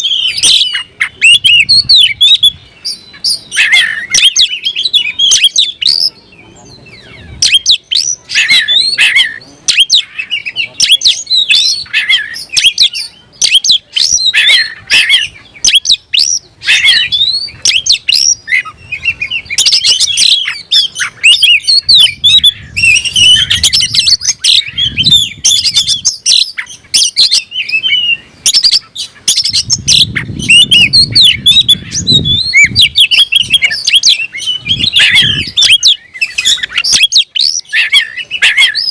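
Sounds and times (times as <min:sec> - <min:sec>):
bird singing varied whistles: 0:00.0 - 0:06.3, 0:06.9 - 0:38.9.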